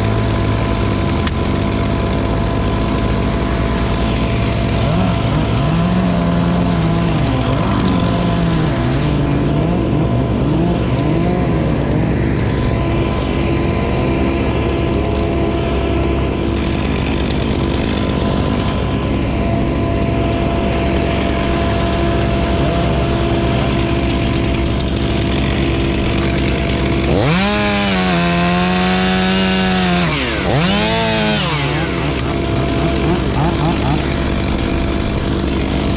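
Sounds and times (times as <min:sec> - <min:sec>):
chainsaw revving: 0:00.0 - 0:35.9.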